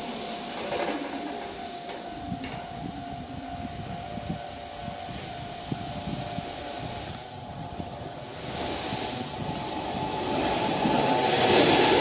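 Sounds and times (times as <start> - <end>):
electric train rumble: 0.0 - 12.0
train whine: 0.0 - 12.0.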